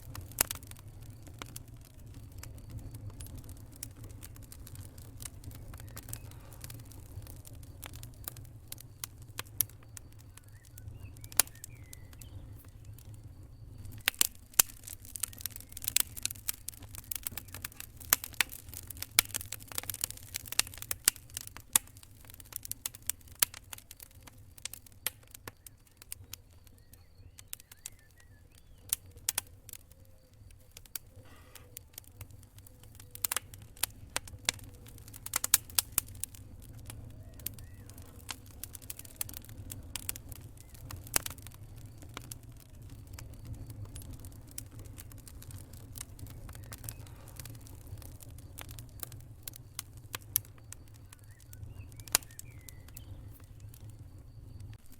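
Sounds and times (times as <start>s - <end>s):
campfire crackling and popping: 0.0s - 54.9s
crickets trilling: 0.0s - 54.9s.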